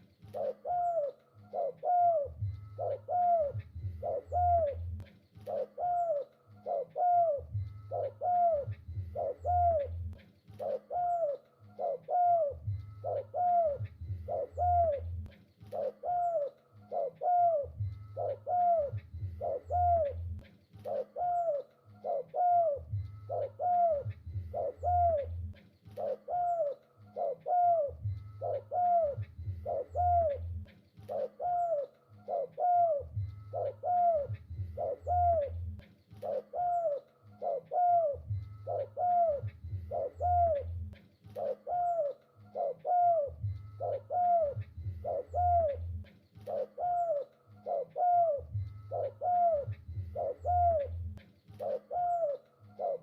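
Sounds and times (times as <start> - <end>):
dove cooing: 0.0 - 53.0
low hum: 0.0 - 53.0.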